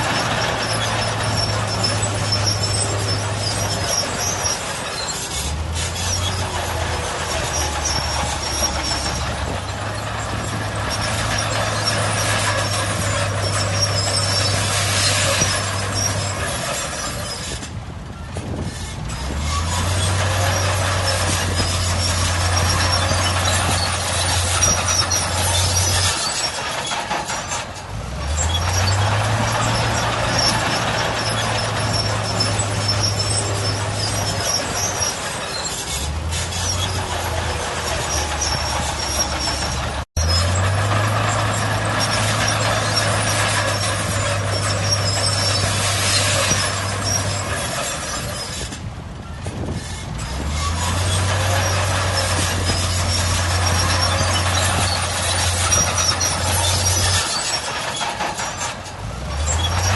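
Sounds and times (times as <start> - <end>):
bulldozer diesel engine: 0.0 - 59.9
steel tracks squealing: 0.0 - 59.9.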